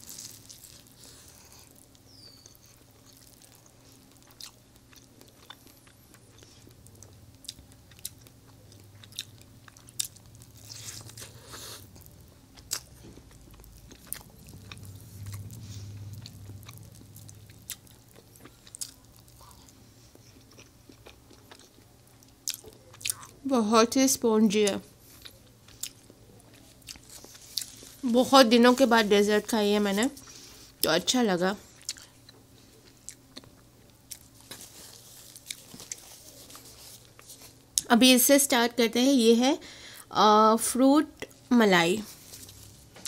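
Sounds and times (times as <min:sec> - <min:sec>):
chewing soft sweet: 0:00.0 - 0:23.5, 0:24.6 - 0:31.0, 0:31.6 - 0:37.9, 0:42.0 - 0:43.0
steady low hum: 0:00.0 - 0:43.0.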